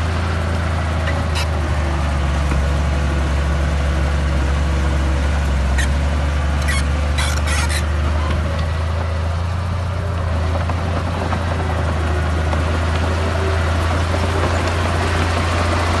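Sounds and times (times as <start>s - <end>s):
bulldozer diesel engine droning: 0.0s - 16.0s.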